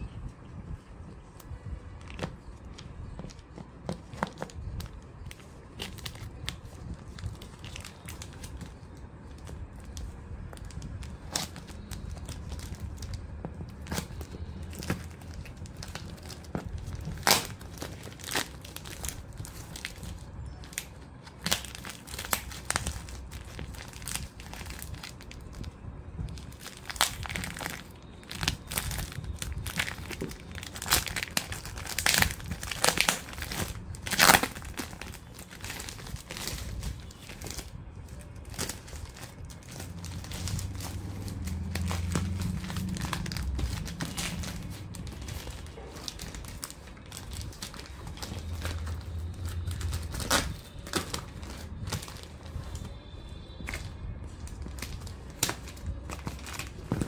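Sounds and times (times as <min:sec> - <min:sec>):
plastic mailer crinkling and tearing: 0:01.5 - 0:57.0.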